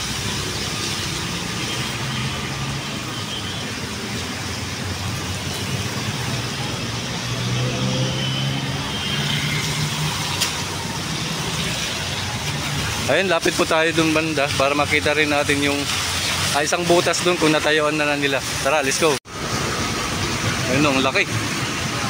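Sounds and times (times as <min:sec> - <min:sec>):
street noise rumble: 0:00.0 - 0:22.0
vehicles passing: 0:00.0 - 0:22.0.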